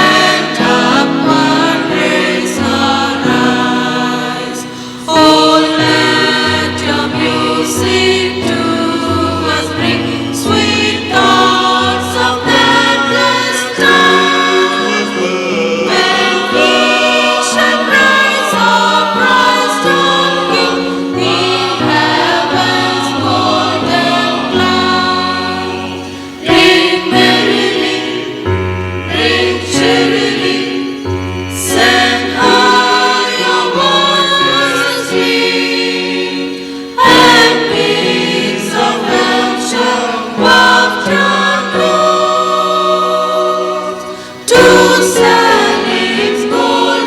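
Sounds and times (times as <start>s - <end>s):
choir singing: 0.0s - 47.0s.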